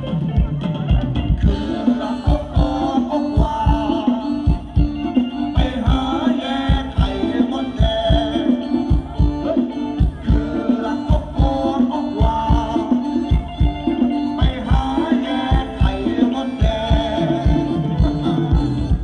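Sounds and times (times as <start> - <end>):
fast kick-drum beat: 0.0 - 19.0
live band melody: 0.0 - 19.0.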